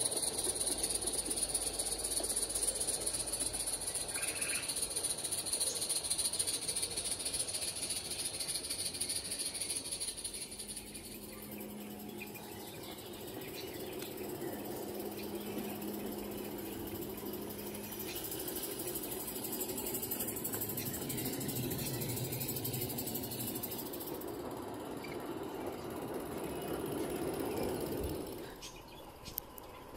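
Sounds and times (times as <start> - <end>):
wheels rattling on rail: 0.0 - 29.9.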